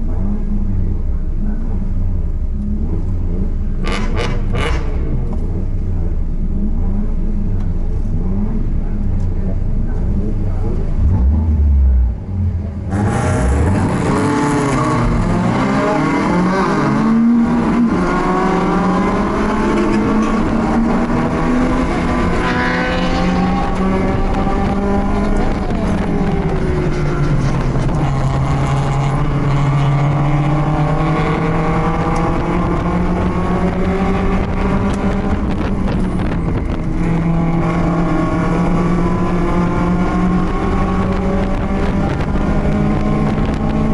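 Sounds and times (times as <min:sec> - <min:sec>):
race car engine accelerating: 0:00.0 - 0:43.9.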